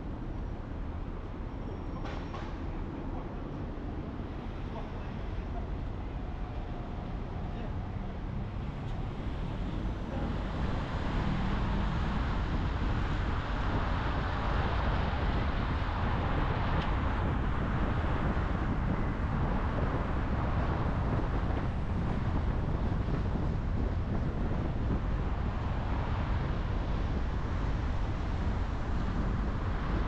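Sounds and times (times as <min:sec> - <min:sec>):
car road rumble: 0:00.0 - 0:30.0
wind noise on microphone: 0:00.0 - 0:30.0.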